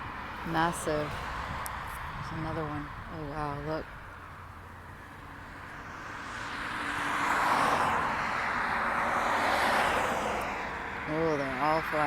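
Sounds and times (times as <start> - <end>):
car approaching: 0.0 - 12.0.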